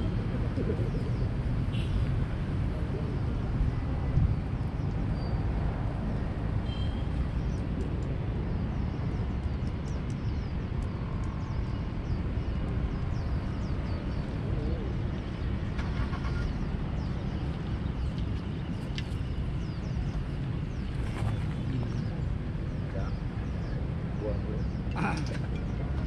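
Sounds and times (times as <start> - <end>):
small birds chirping: 2.8 - 26.0.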